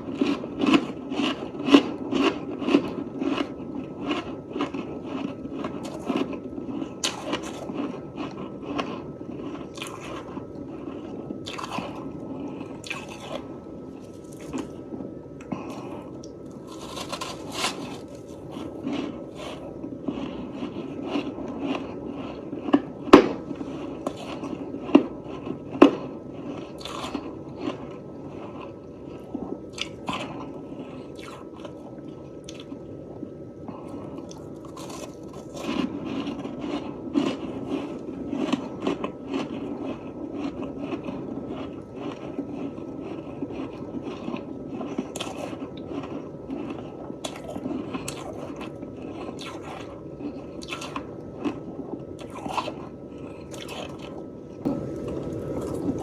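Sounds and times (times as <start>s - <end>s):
person chewing crunchy frost: 0.0s - 56.0s.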